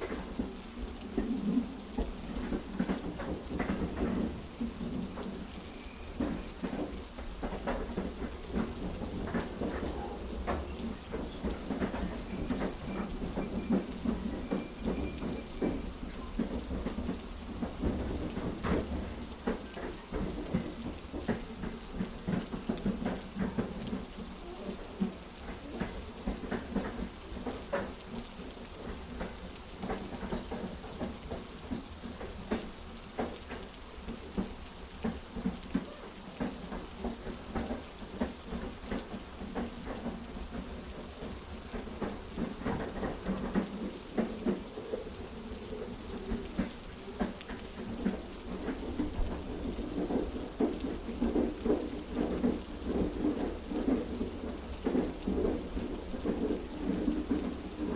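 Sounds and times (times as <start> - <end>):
heavy rain: 0.0 - 57.9
train carriage rumble: 0.0 - 57.9
train wheels clacking on track: 0.0 - 57.9.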